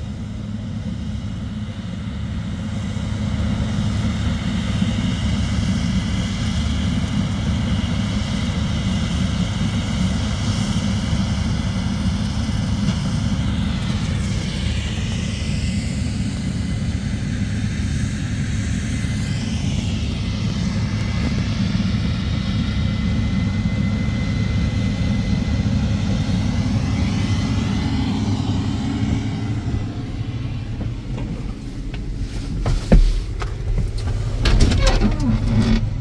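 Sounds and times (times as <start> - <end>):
combine engine rumble: 0.0 - 36.0.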